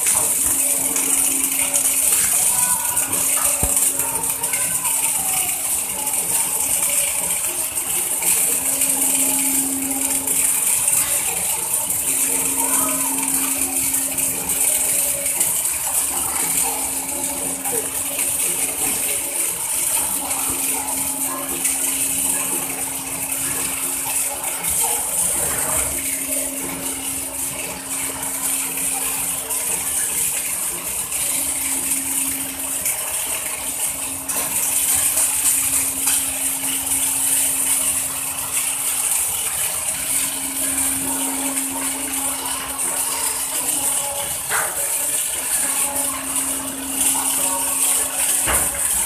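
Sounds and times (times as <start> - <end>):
machinery hum: 0.0 - 49.0.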